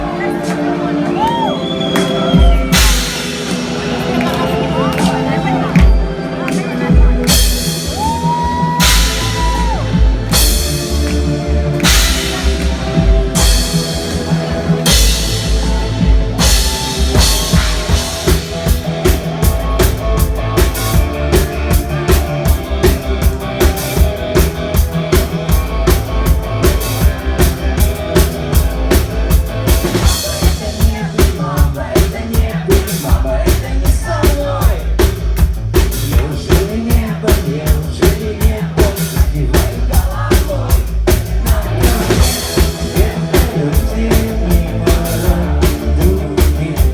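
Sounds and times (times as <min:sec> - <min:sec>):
drum kit beat: 0:00.0 - 0:46.9
rock band playing live: 0:00.0 - 0:46.9.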